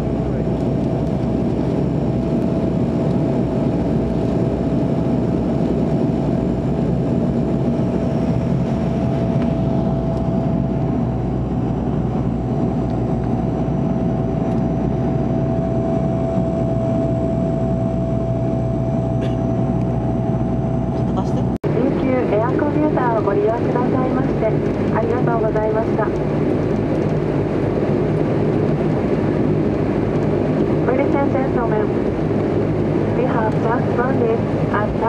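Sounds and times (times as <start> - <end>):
turboprop engines droning in cabin: 0.0 - 35.0.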